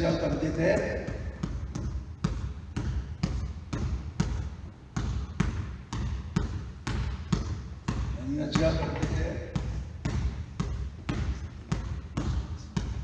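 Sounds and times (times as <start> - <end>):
basketball bouncing: 0.0 - 13.0.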